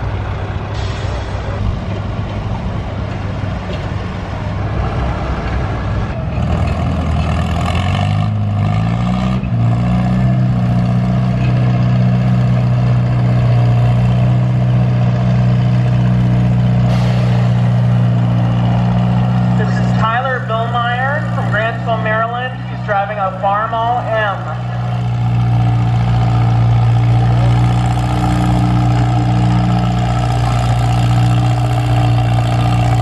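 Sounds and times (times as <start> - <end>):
tractor engine revving: 0.0 - 33.0.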